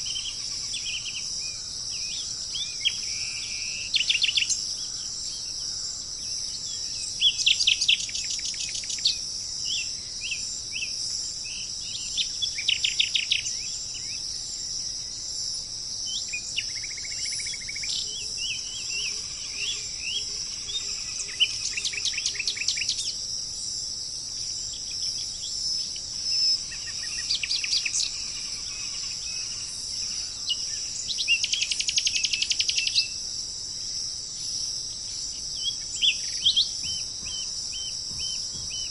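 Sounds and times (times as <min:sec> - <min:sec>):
birds trilling song: 0:00.0 - 0:38.9
high-pitched insect drone: 0:00.0 - 0:38.9.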